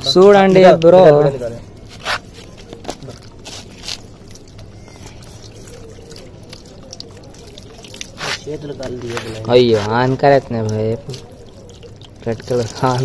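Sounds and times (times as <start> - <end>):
faint trickle of liquid: 0.0 - 13.0
wet squishes of eel handling: 0.0 - 13.0.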